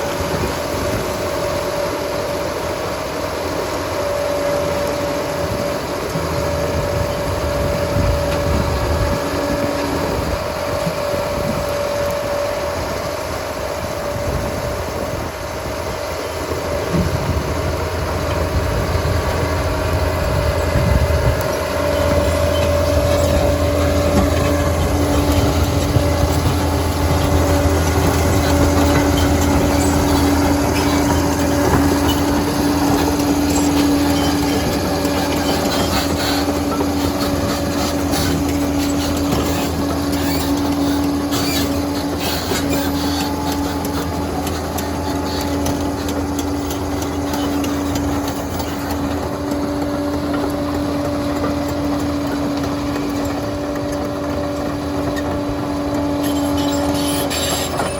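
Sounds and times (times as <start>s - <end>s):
diesel engine droning: 0.0s - 57.9s
steel tracks clanking: 0.0s - 57.9s.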